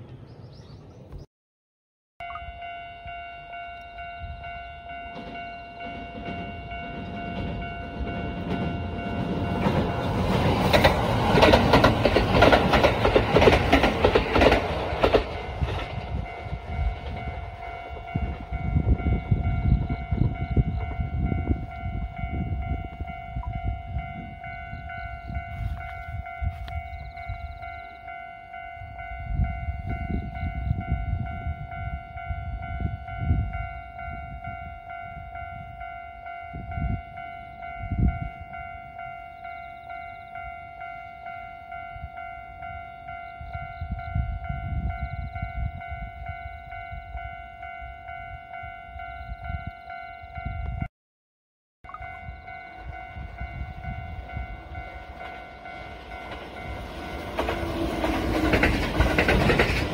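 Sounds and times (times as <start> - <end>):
train wheels rumbling on track: 3.8 - 49.9, 52.2 - 59.9.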